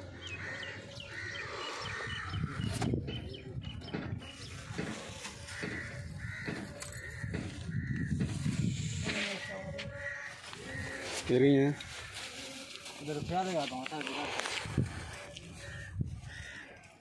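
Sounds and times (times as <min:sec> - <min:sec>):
crows cawing: 0:00.0 - 0:02.8, 0:04.6 - 0:13.1, 0:14.2 - 0:17.0.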